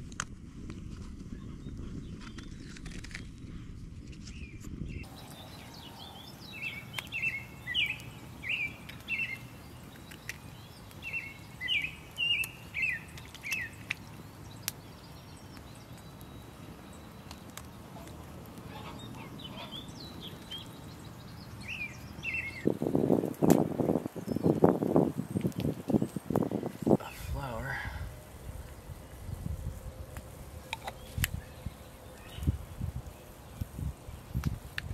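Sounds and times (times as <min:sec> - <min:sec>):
songbird singing: 0:04.2 - 0:34.9.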